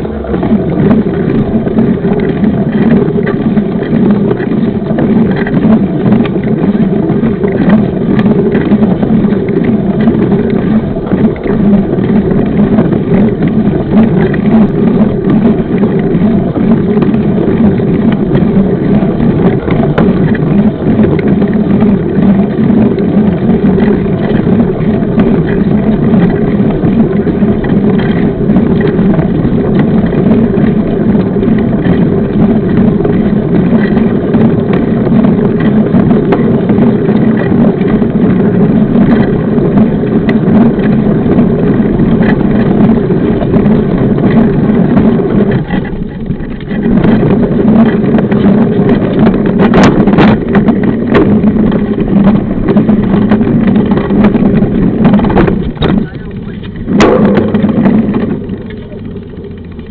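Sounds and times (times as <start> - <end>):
bike tyres rolling on trail: 0.0 - 59.9
wind on microphone: 0.0 - 59.9.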